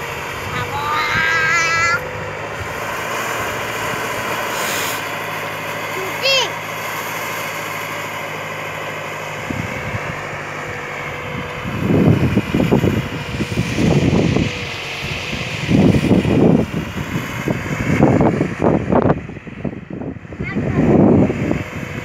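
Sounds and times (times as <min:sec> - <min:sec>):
diesel engine running: 0:00.0 - 0:22.0
loud rumbling bursts: 0:00.0 - 0:22.0.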